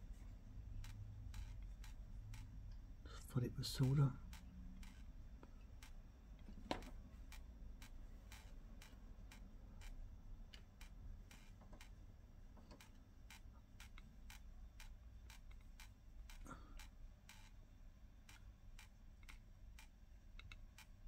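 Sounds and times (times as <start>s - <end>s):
faint even ticking: 0.0s - 21.0s
low steady hum: 0.0s - 21.0s.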